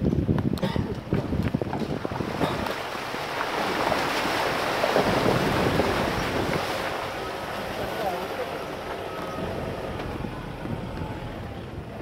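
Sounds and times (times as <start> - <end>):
off-road vehicle on dirt track: 0.0 - 12.0.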